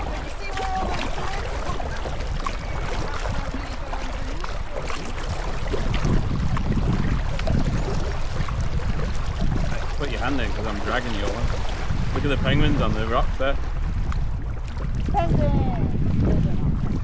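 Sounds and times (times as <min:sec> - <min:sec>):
water splashing around kayak: 0:00.0 - 0:17.0
wind on microphone: 0:00.0 - 0:17.0.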